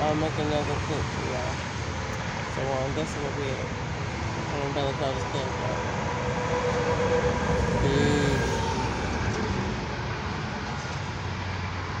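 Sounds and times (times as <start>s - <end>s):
vehicle rumble and road noise: 0.0s - 12.0s.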